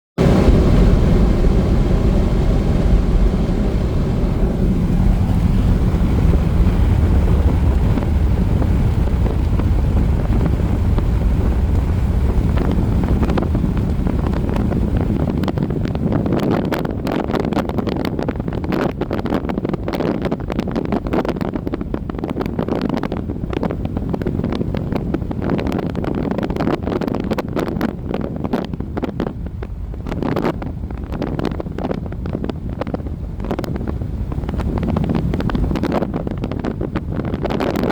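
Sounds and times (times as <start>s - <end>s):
wind blowing hard: 0.2s - 37.9s.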